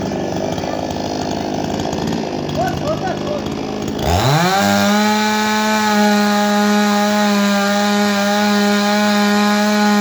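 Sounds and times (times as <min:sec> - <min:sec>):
chainsaw engine at full throttle: 0:00.0 - 0:10.0.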